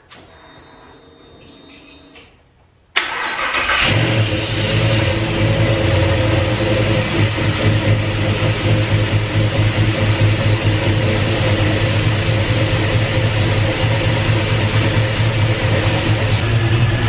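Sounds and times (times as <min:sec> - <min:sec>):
car engine starting and idling: 0:03.0 - 0:17.0.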